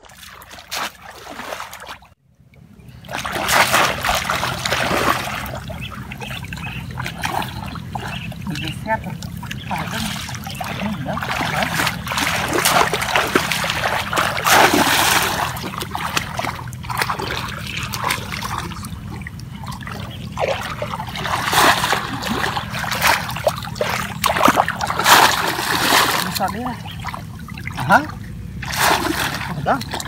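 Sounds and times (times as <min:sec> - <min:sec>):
muddy water splashing: 0:00.0 - 0:30.0.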